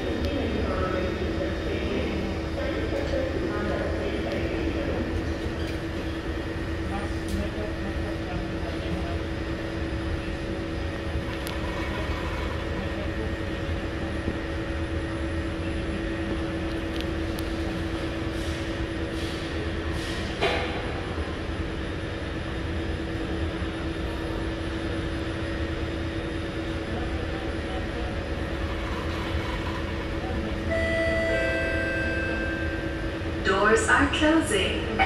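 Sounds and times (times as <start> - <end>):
metro train humming: 0.0 - 35.0.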